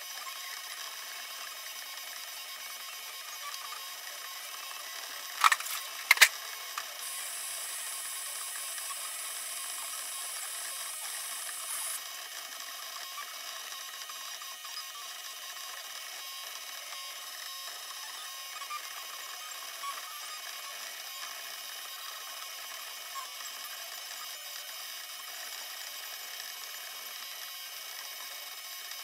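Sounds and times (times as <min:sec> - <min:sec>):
laser engraver motors whirring: 0:00.0 - 0:29.0.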